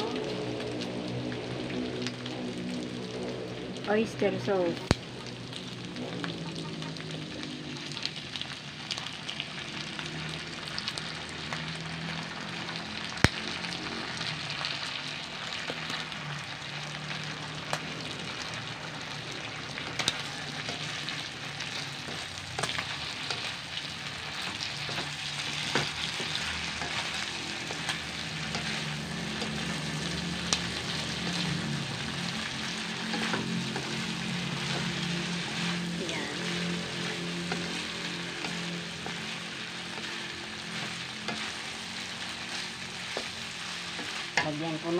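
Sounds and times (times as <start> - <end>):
meat sizzling in a wok: 0.0 - 44.9.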